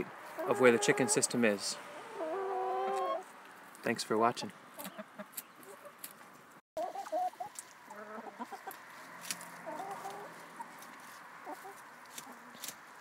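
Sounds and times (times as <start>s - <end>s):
hens clucking: 0.3s - 3.3s, 4.4s - 6.1s, 6.8s - 12.8s.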